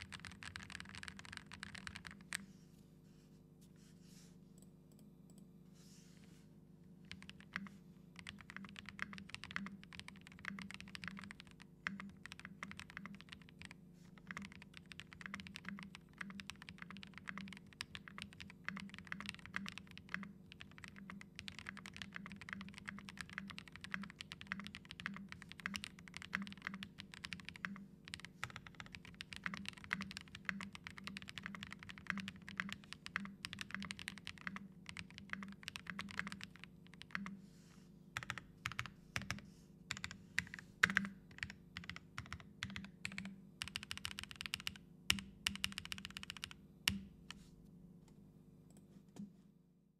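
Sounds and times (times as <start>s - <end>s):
fast typing on mechanical keyboard: 0.0s - 2.4s, 7.1s - 37.3s, 38.2s - 47.0s.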